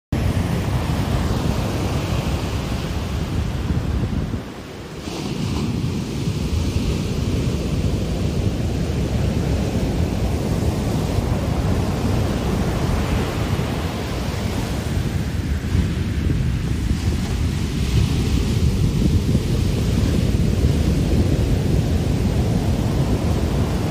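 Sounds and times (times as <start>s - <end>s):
surf breaking on beach: 0.2s - 23.9s
wind buffeting microphone: 0.2s - 23.9s.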